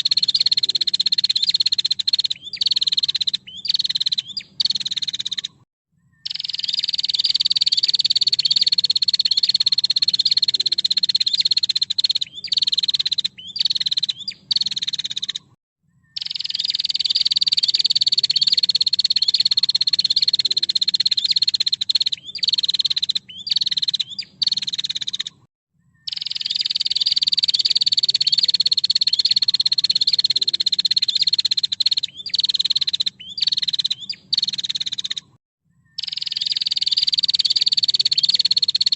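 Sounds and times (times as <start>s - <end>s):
bird ticking trill call: 0.0s - 38.9s.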